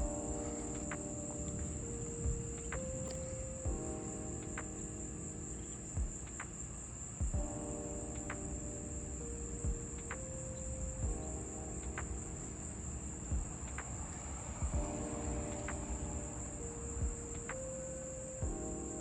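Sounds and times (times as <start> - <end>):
faint music with held chords: 0.0 - 19.0.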